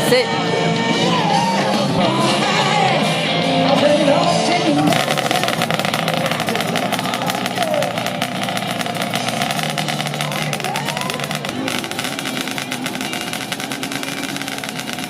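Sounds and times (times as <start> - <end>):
rock music with singing: 0.0 - 15.0
motorcycle engine running: 1.8 - 15.0.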